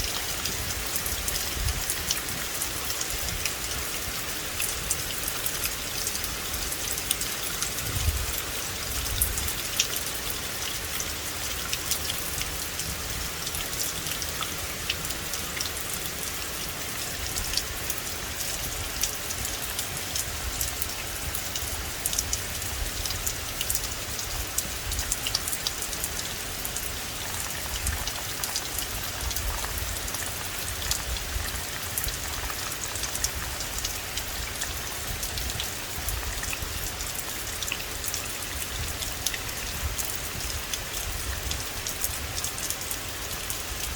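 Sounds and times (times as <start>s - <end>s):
rain pattering on forest: 0.0s - 43.9s.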